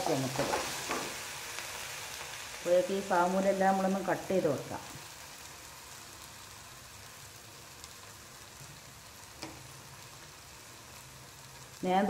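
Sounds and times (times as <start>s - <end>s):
banana pieces sizzling in pan: 0.0s - 12.0s.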